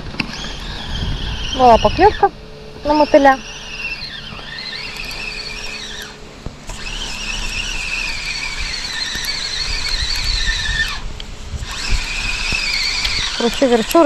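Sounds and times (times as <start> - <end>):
fishing reel whining: 0.0 - 14.0.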